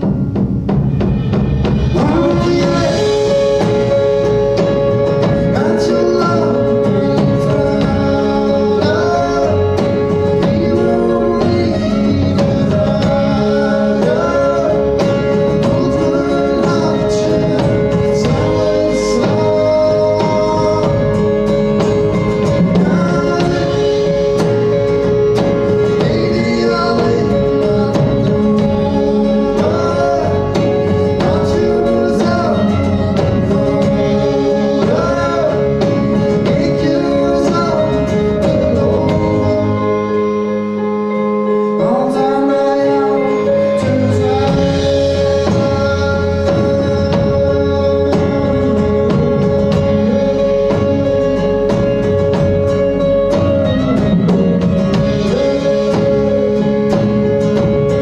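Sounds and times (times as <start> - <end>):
acoustic guitar: 0.0 - 58.0
bass guitar: 0.0 - 58.0
drums: 0.0 - 58.0
electric guitar: 0.0 - 58.0
man singing: 1.8 - 58.0.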